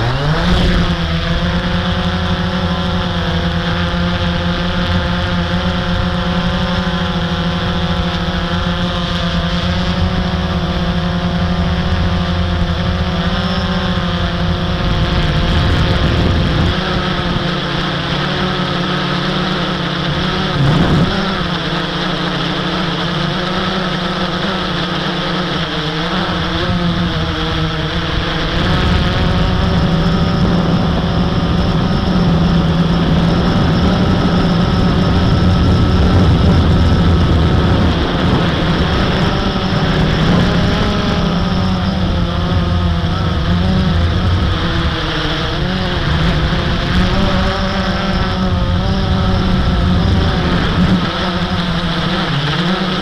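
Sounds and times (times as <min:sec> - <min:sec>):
quadcopter motors whining: 0:00.0 - 0:53.0.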